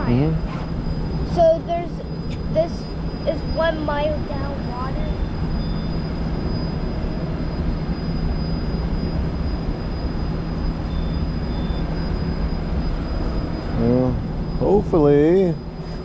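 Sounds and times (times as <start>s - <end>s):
thin high-pitched whine: 0.0s - 16.0s.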